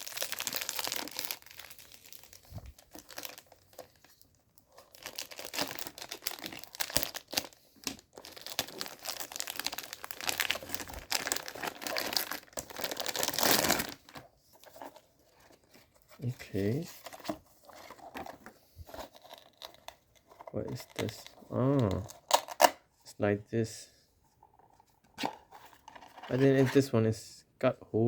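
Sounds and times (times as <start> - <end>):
plastic packaging crinkling and tearing: 0.0 - 22.7.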